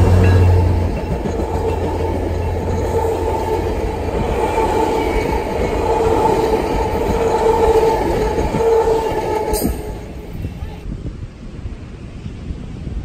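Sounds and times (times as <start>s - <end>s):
rail cars rumbling: 0.0s - 13.0s.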